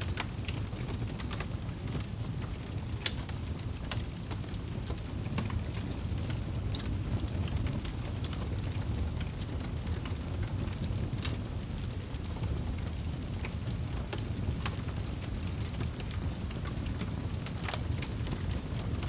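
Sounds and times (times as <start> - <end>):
firewood crackling and popping: 0.0 - 19.0
low rumble of flames: 0.0 - 19.0.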